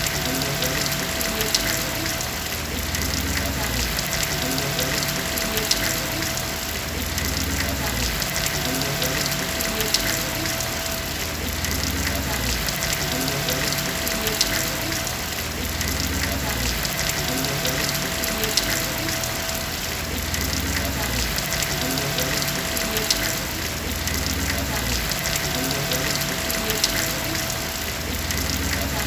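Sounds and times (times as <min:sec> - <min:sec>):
raindrops tapping: 0:00.0 - 0:29.0
steady rain hiss: 0:00.0 - 0:29.0.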